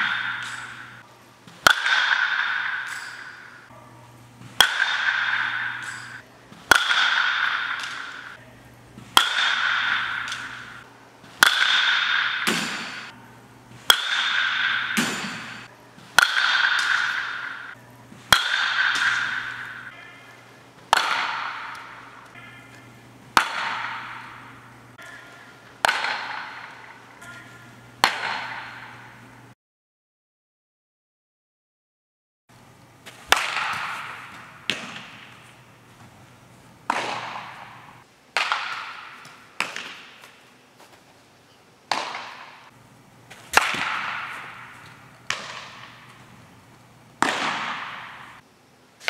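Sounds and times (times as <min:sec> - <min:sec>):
baseball bat hitting balls: 0:00.0 - 0:29.4, 0:32.6 - 0:41.0, 0:41.9 - 0:48.4
low steady hum: 0:00.0 - 0:29.6, 0:32.5 - 0:49.0.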